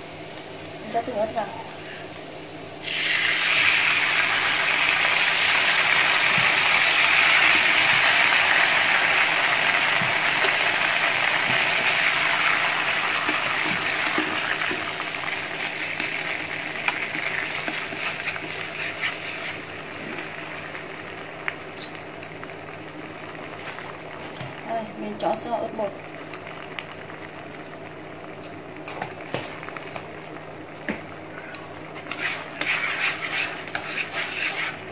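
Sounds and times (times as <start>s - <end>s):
sauce sizzling in hot oil: 0.0s - 34.9s.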